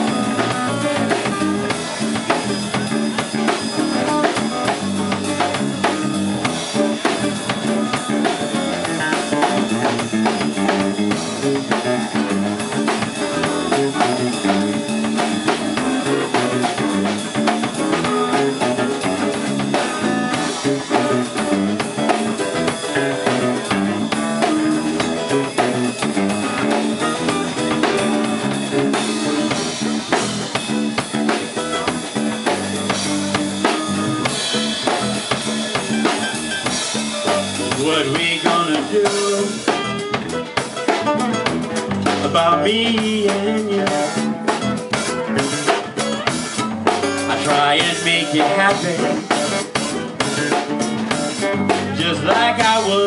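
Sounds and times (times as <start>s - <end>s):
bass guitar: 0.0s - 53.0s
drum kit with rimshots: 0.0s - 53.0s
guitars: 0.0s - 53.0s.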